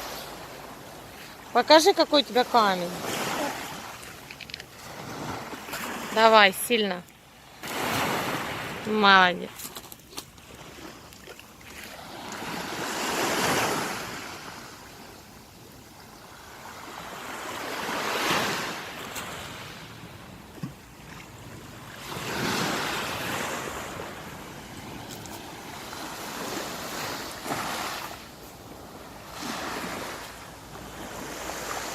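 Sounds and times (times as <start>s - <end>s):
sea waves breaking on shore: 0.0s - 31.9s.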